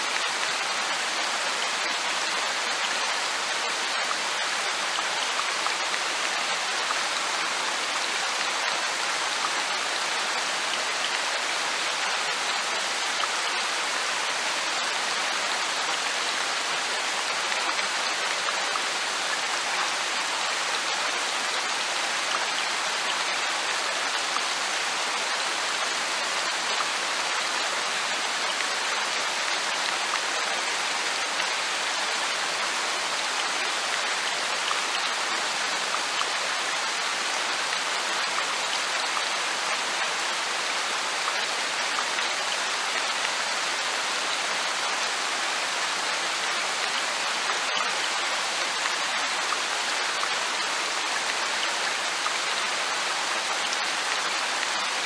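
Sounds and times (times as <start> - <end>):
light rain falling: 0.0 - 55.0.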